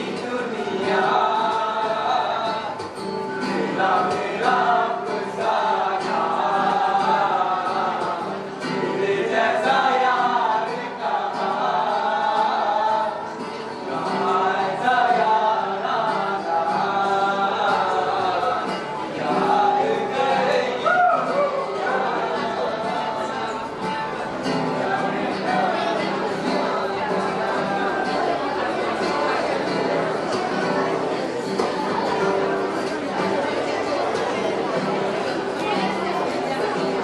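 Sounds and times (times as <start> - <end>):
choir singing: 0.0 - 32.7.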